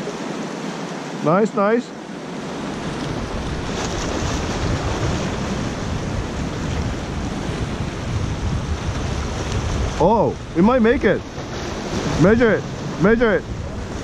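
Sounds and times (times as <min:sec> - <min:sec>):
waves splashing against rocks: 0:00.0 - 0:14.0
wind rumbling on microphone: 0:02.5 - 0:14.0.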